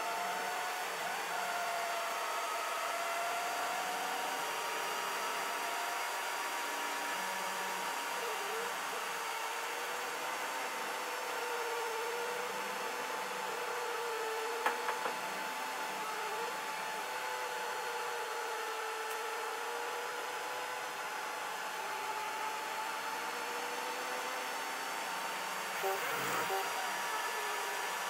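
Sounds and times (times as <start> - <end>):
stepper motor whine: 0.0 - 28.0.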